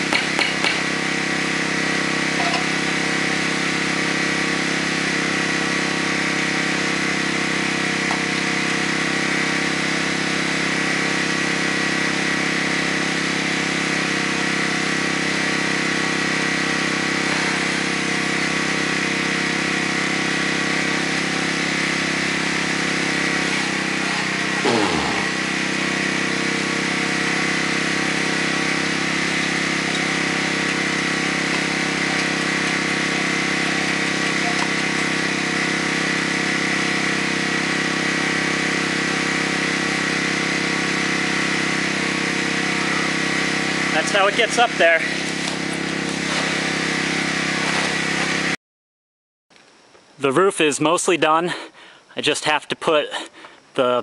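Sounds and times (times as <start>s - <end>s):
small engine running: 0.0s - 48.6s.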